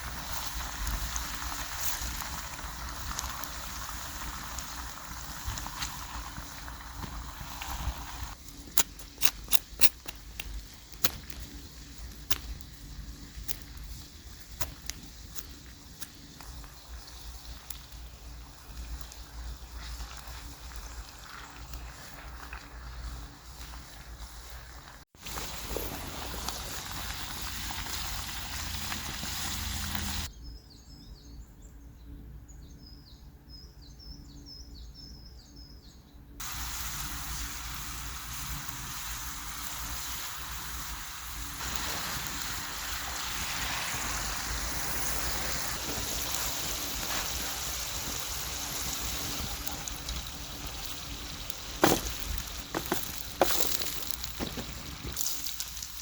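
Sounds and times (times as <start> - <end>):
food sizzling in a pan: 0.0 - 30.3, 36.4 - 56.0.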